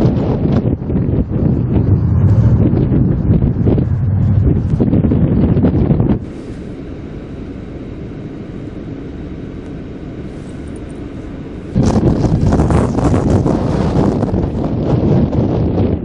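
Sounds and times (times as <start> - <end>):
wind buffeting microphone: 0.0 - 7.6, 10.2 - 16.0
steady rush of wind: 0.0 - 16.0.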